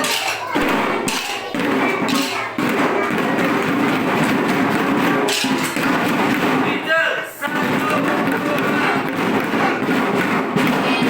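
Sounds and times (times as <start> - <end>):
drum band beating drums: 0.0 - 11.0.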